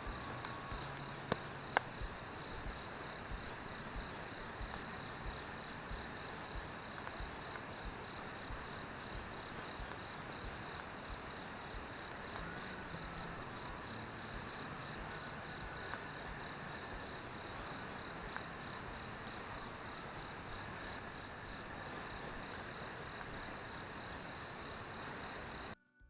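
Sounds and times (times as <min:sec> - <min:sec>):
mountain stream rushing: 0:00.0 - 0:25.8
cricket chirping: 0:00.0 - 0:26.0.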